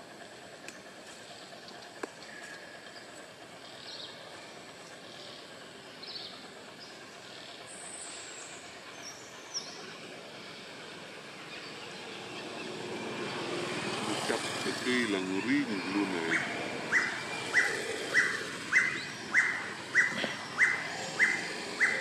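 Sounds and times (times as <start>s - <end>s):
distant background hiss: 0.0s - 22.0s.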